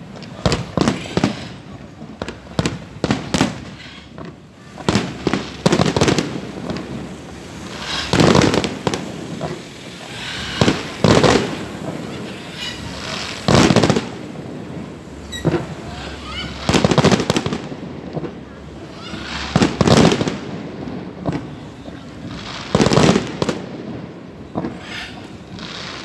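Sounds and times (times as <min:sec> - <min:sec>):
fireworks bangs: 0:00.0 - 0:26.0
heavy firework booms: 0:00.0 - 0:26.0.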